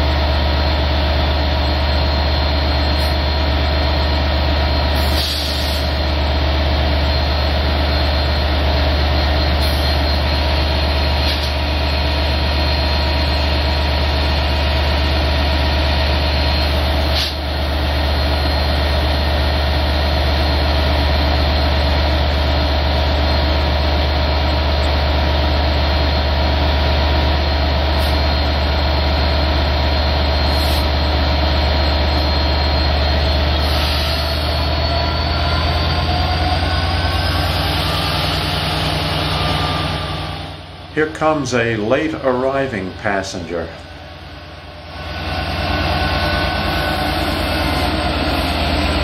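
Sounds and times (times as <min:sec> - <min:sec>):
diesel engine idling drone: 0:00.0 - 0:49.0.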